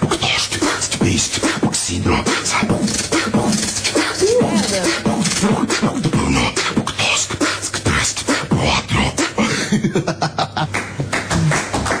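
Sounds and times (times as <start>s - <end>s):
voiced hums and pitch slides: 0.0s - 11.7s.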